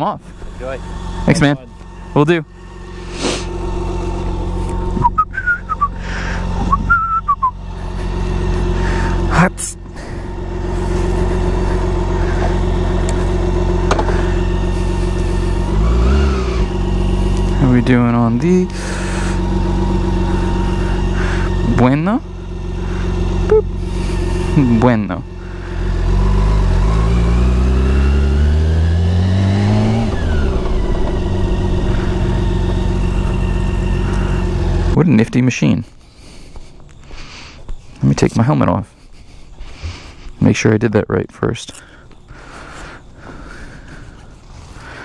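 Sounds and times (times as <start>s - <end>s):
motorcycle engine idling: 0.0s - 40.5s, 41.4s - 45.0s.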